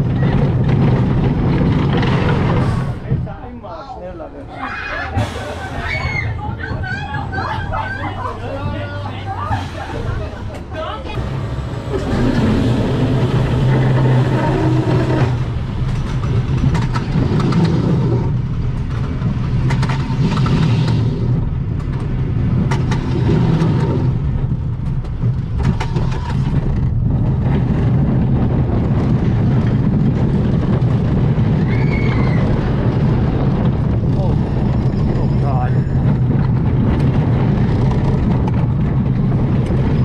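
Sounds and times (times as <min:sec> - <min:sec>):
roller coaster rumbling: 0:00.0 - 0:40.0.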